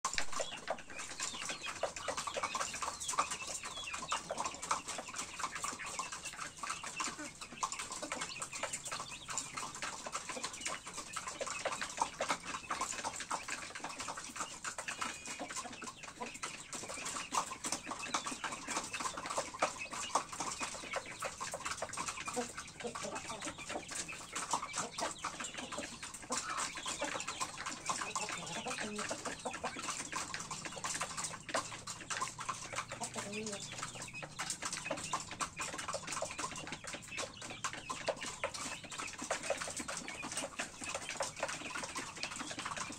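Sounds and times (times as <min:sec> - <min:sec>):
chickens clucking softly: 0:00.1 - 0:42.9
small clicks and scratches: 0:00.1 - 0:42.9.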